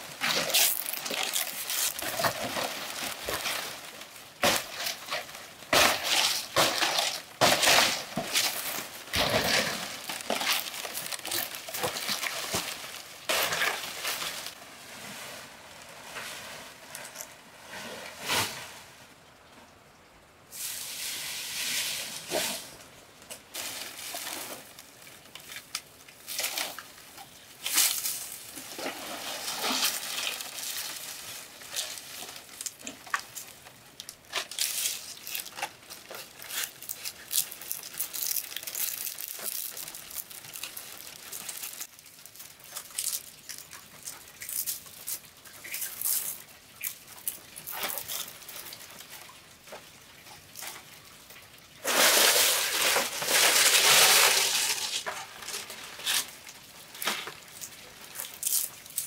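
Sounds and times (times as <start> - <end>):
dry leaf thatch rustling: 0.0 - 19.0, 23.5 - 48.8, 51.8 - 59.0.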